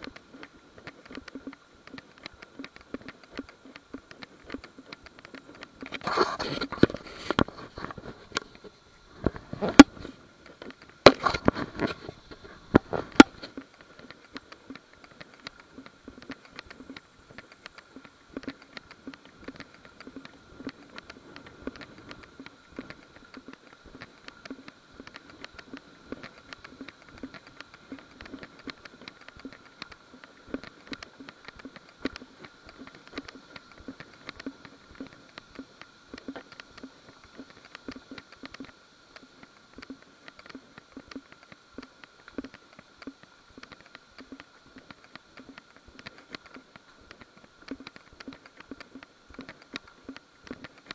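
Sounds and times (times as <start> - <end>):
footsteps on dirt trail: 0.0 - 50.9.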